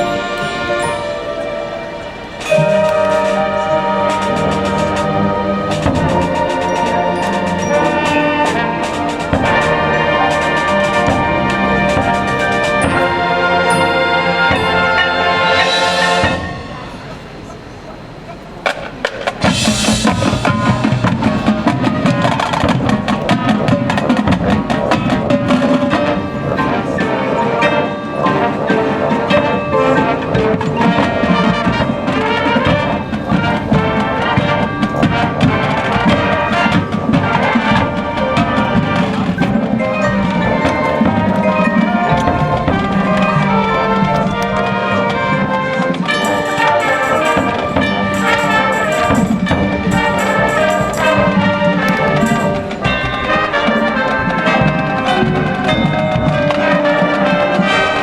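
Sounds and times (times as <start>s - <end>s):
marching band playing: 0.0s - 17.6s, 18.4s - 58.0s.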